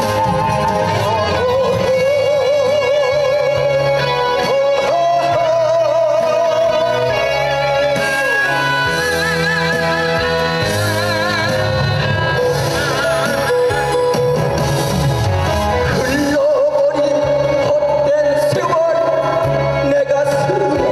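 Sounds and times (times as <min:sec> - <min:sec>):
person singing with vibrato: 0:00.0 - 0:14.8, 0:15.4 - 0:20.9
bass and guitar accompaniment: 0:00.0 - 0:20.9.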